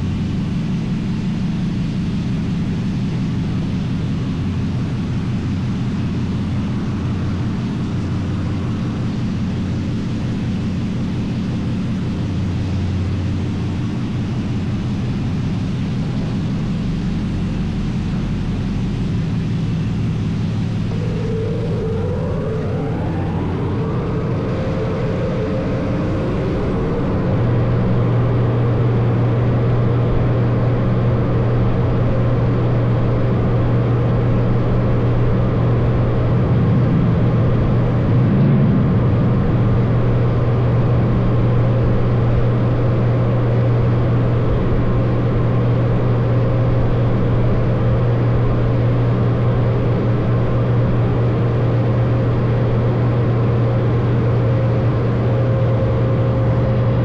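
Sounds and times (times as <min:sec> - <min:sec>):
car wash machinery drone: 0:00.0 - 0:57.0.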